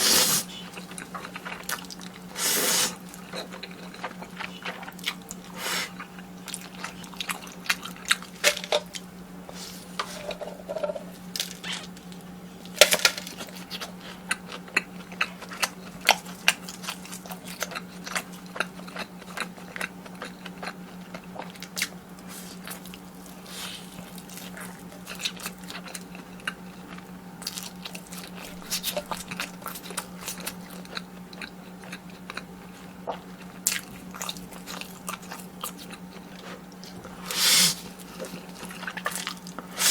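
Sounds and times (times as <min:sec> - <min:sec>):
person chewing crisp food: 0:00.0 - 0:39.9.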